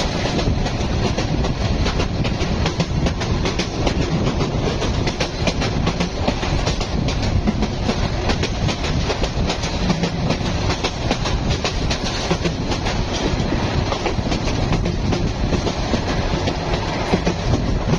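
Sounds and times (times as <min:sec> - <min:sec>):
train rumbling on track: 0:00.0 - 0:17.9
wheels clicking on rails: 0:00.0 - 0:17.9.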